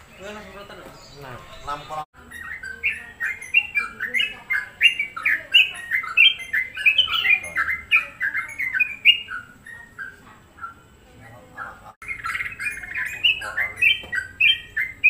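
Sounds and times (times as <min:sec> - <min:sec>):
bird singing chattering notes: 0:00.0 - 0:15.0.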